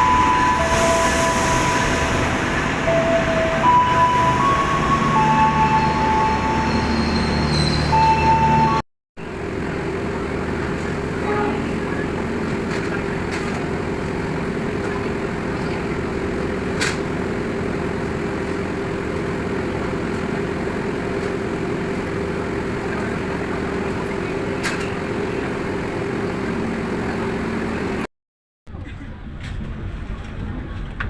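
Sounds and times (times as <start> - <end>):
train rumbling: 0.0 - 28.1, 28.7 - 31.0.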